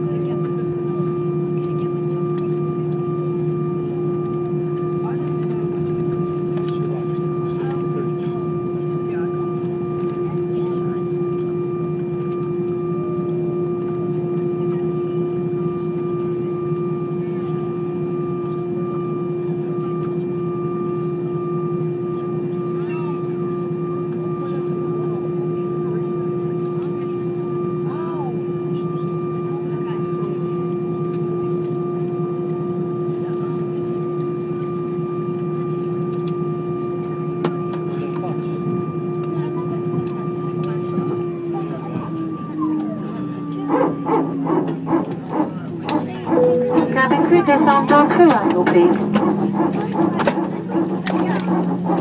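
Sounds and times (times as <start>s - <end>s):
airplane cabin drone: 0.0s - 52.0s.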